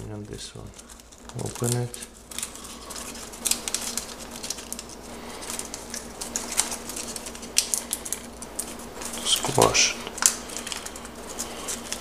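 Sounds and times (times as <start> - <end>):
paper crackling and rustling: 0.0 - 12.0.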